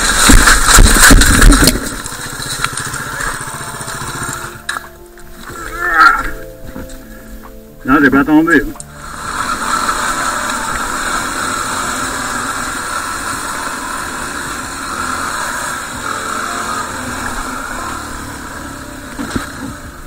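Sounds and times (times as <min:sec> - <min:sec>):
road and wind noise: 0:00.0 - 0:05.7, 0:06.3 - 0:20.0
motorcycle engine running: 0:00.0 - 0:07.2, 0:08.7 - 0:20.0.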